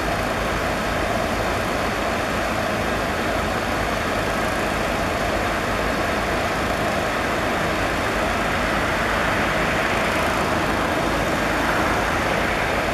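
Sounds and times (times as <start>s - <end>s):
diesel locomotive engines idling: 0.0s - 12.9s.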